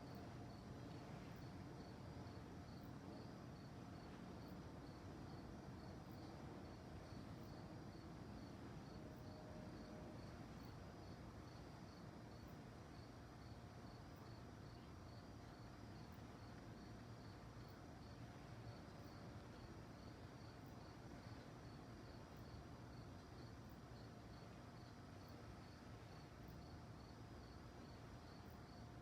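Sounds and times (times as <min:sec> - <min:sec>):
crickets chirping: 0:00.0 - 0:29.0
low background hiss: 0:00.0 - 0:29.0.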